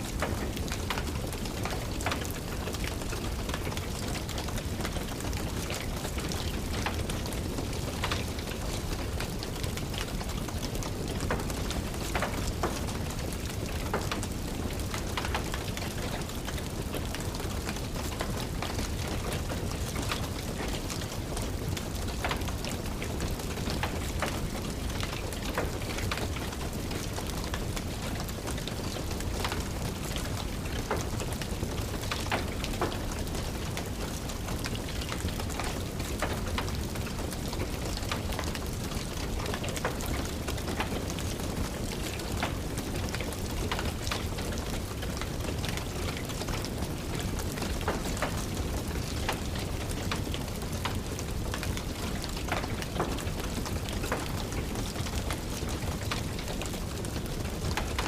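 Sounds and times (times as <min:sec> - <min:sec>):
fireplace fire crackling: 0:00.0 - 0:58.0
steady rain: 0:00.0 - 0:58.0.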